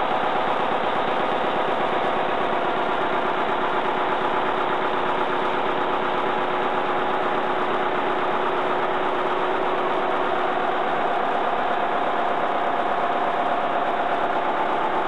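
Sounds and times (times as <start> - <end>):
diesel generator chugging: 0.0 - 15.0.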